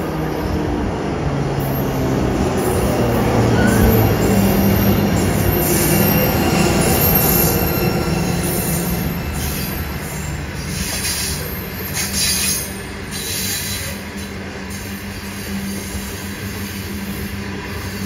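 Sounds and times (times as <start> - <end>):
diesel locomotive engine droning: 0.0 - 18.0
high wheel squeal: 1.6 - 18.0.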